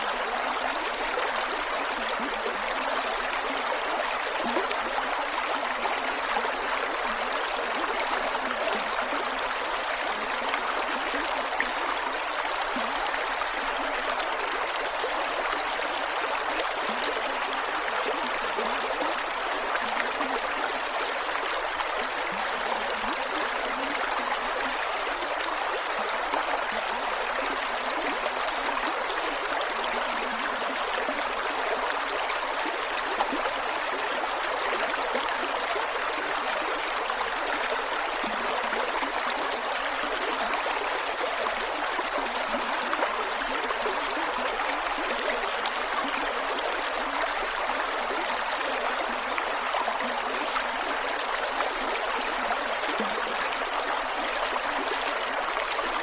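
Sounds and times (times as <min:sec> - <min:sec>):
creek water flowing over rocks: 0:00.0 - 0:56.0.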